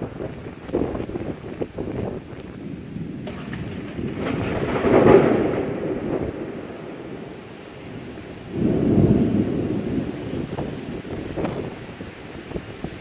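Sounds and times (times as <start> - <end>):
heavy rain hissing: 0.0 - 13.0
thunder rumbling: 0.0 - 13.0.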